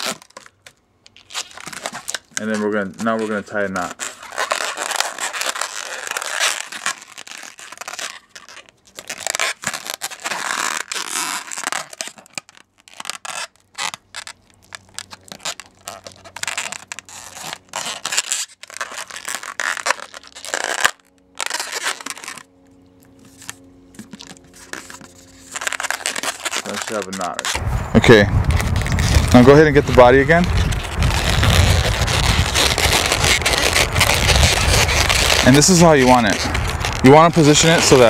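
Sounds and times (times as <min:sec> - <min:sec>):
balloons rubbing and scraping: 0:00.0 - 0:00.6, 0:01.2 - 0:22.5, 0:23.2 - 0:38.0.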